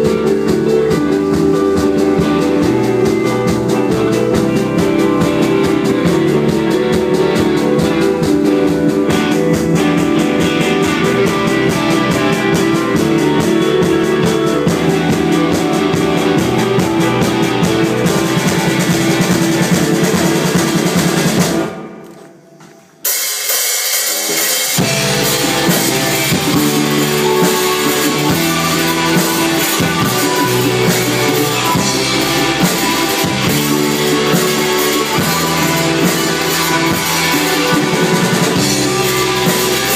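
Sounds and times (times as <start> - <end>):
instrumental rock song: 0.0 - 39.9.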